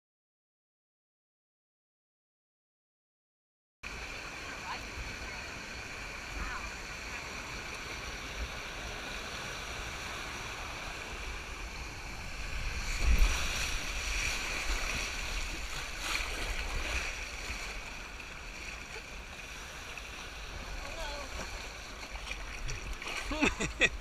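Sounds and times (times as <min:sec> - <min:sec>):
water rushing and splashing: 0:03.8 - 0:24.0.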